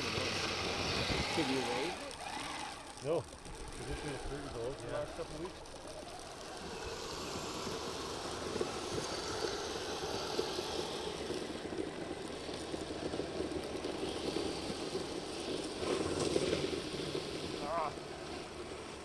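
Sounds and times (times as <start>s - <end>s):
toy vehicle motors buzzing: 0.0s - 19.0s.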